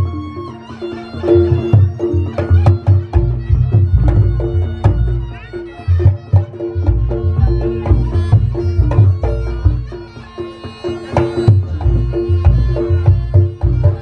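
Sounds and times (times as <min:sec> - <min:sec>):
shrill shawm: 0:00.0 - 0:14.0.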